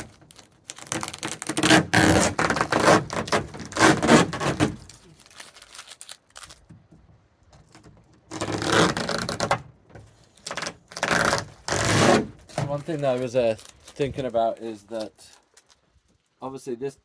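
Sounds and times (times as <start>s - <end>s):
duct tape peeling off plastic: 0.0s - 6.8s, 7.6s - 15.8s.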